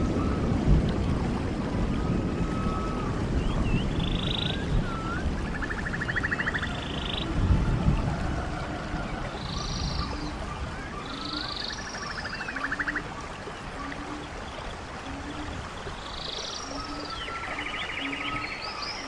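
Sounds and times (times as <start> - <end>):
stream water running: 0.0 - 19.0
birdsong with buzzy trills: 2.0 - 7.7, 8.8 - 19.0.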